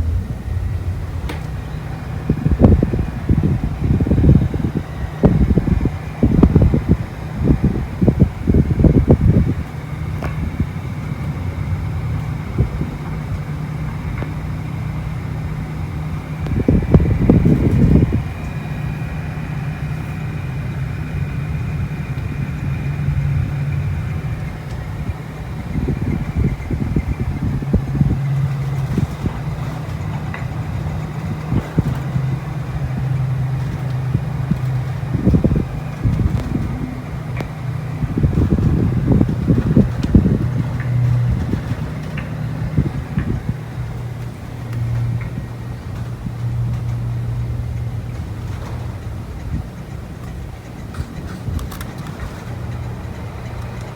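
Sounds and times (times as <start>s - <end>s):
faint high whine: 0.0s - 48.8s
air conditioner humming: 0.0s - 53.9s
irregular rumbling: 0.0s - 53.9s.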